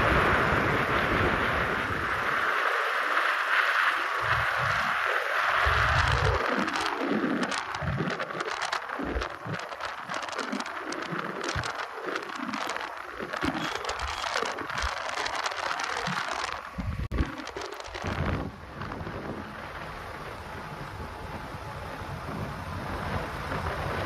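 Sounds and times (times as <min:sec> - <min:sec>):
vehicle travel noise rushing: 0:00.0 - 0:24.0
wind buffeting microphone: 0:00.0 - 0:24.0.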